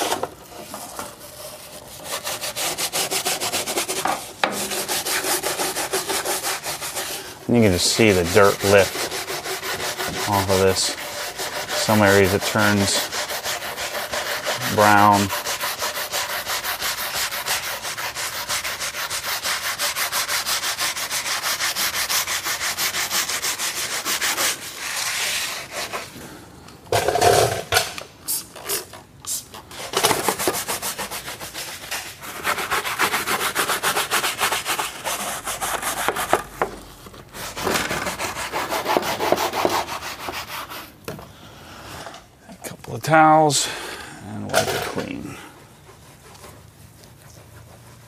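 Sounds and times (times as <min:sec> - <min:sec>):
brush scrubbing plastic: 0:00.0 - 0:26.2, 0:29.3 - 0:41.0, 0:44.5 - 0:48.0.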